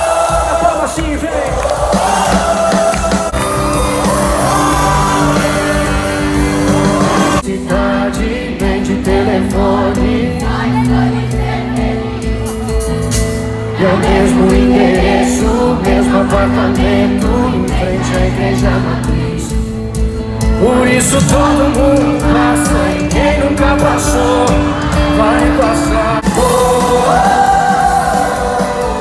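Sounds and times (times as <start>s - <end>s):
male singer with band: 0.0s - 29.0s.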